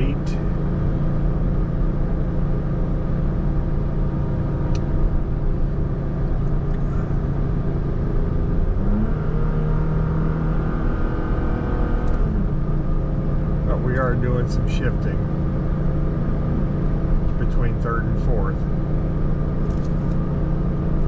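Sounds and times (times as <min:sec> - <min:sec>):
road noise inside a cab: 0:00.0 - 0:21.0.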